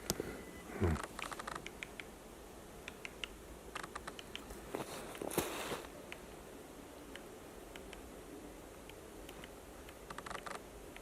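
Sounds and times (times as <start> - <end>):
rustle: 0.0 - 11.0.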